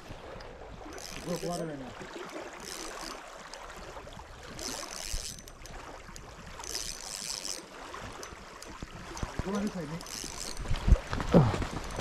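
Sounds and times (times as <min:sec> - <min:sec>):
small waves lapping on gravel: 0:00.0 - 0:12.0.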